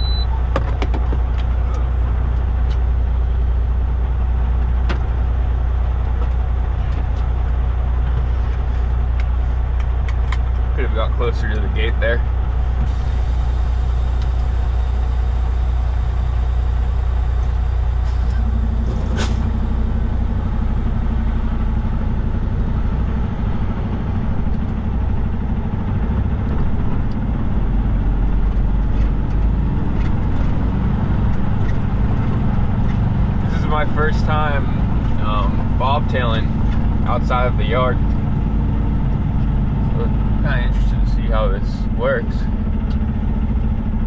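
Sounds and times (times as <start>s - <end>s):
diesel truck engine idling and pulling away: 0.0s - 44.0s.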